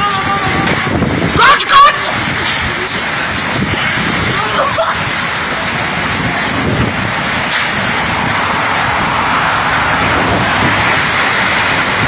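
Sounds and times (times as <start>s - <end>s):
wind buffeting microphone: 0.0s - 12.0s
wind rushing roar: 0.0s - 12.0s.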